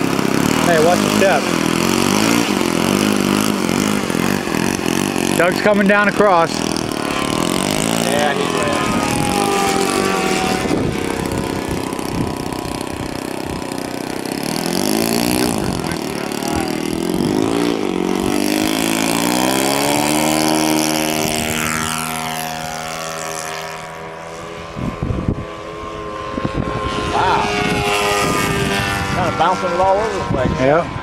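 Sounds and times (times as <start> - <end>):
model airplane motor whining: 0.0 - 31.0.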